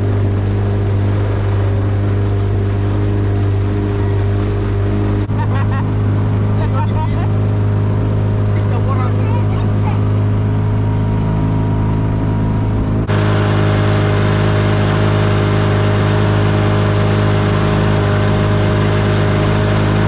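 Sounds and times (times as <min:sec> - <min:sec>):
motorboat engine humming: 0:00.0 - 0:20.0.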